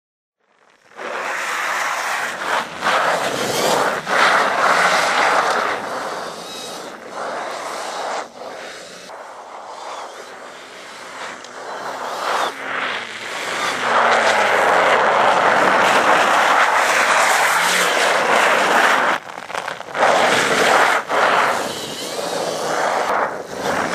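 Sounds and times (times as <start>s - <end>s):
electric motorcycle rushing on snow: 0.4s - 23.9s
faint motor whine: 0.5s - 23.9s.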